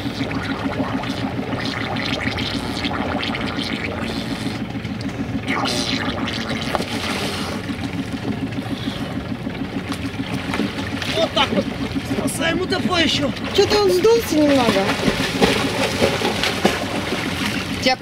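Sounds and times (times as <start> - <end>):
diesel engine idling: 0.0 - 18.0
water splashing against boat: 0.0 - 18.0.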